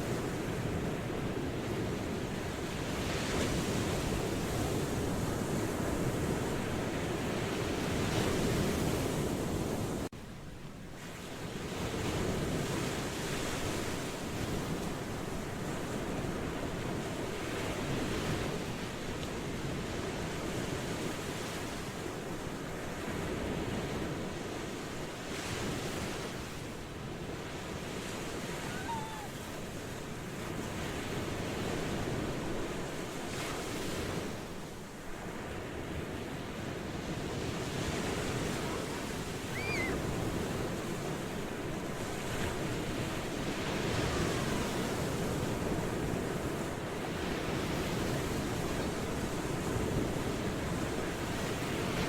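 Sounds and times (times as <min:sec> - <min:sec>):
ocean waves washing ashore: 0:00.0 - 0:52.0.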